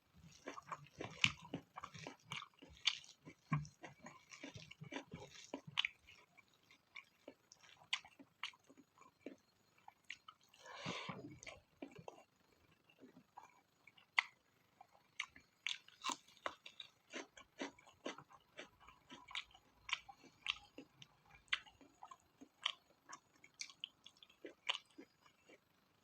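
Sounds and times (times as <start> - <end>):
person chewing: 0.3 - 25.7.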